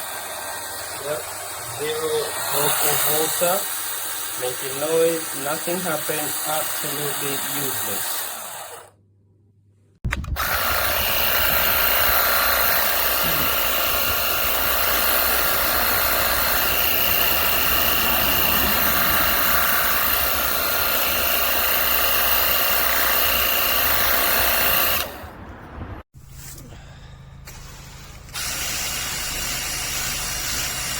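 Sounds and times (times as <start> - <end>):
pressure washer motor humming: 0.0 - 8.9, 10.2 - 25.4, 27.5 - 30.9.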